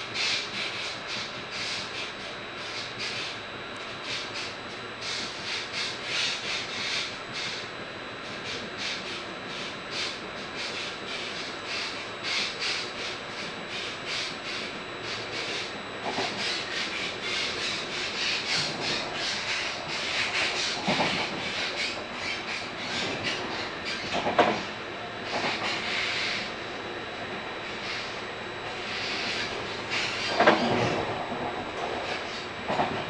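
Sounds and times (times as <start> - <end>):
train wheels rolling on rails: 0.5 - 33.0.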